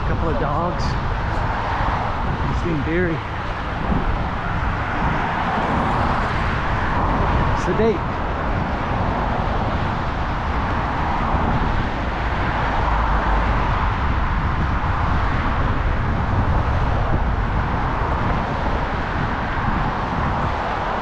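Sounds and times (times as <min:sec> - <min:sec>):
cars passing on road: 0:00.0 - 0:21.0
low traffic rumble: 0:00.0 - 0:21.0.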